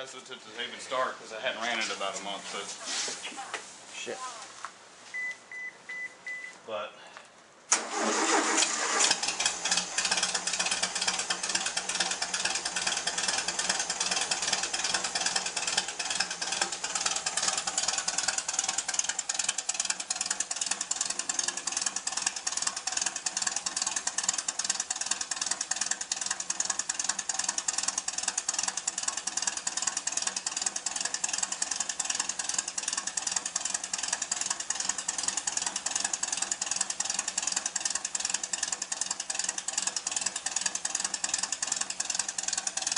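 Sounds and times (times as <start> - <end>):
car engine running: 7.7 - 42.9.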